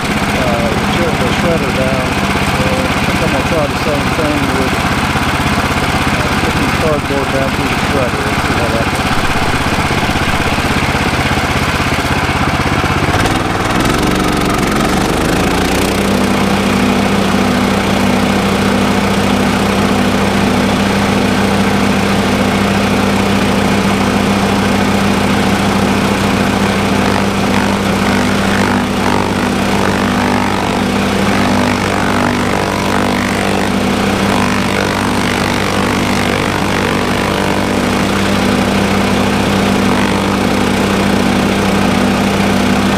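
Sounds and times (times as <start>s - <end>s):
chipper-shredder engine under load: 0.0s - 42.9s.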